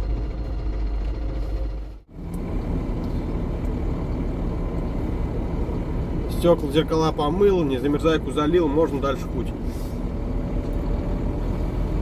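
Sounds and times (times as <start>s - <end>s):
diesel truck engine running: 0.0s - 12.0s
road rumble: 0.0s - 12.0s.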